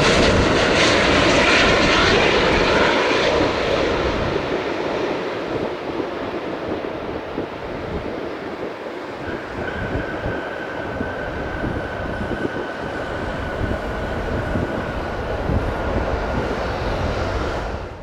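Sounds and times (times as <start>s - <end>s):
jet engine rumble and whine: 0.0s - 18.0s.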